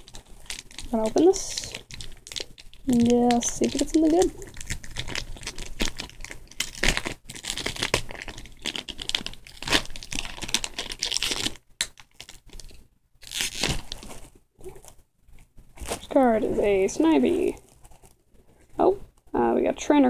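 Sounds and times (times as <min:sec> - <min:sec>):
card pack wrapper crinkling and tearing: 0:00.0 - 0:15.0, 0:15.8 - 0:16.2, 0:17.4 - 0:18.2.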